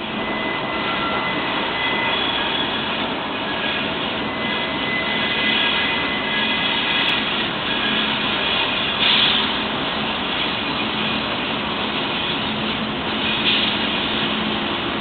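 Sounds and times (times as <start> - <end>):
diesel locomotives droning: 0.0 - 15.0.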